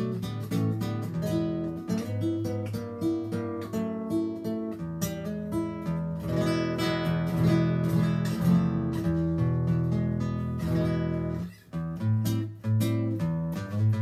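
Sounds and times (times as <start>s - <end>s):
fingerstyle nylon-string guitar: 0.0s - 14.0s.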